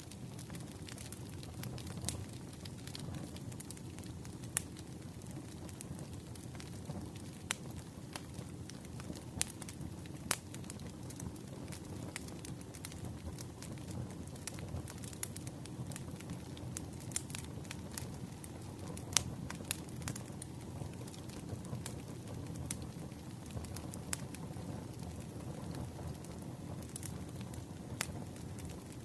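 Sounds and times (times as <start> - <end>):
burning wood rumble: 0.0 - 29.0
campfire pops and snaps: 0.1 - 29.0.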